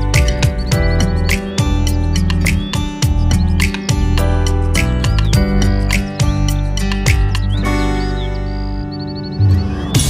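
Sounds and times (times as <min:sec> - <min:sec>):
plucked guitar-like music: 0:00.0 - 0:10.0.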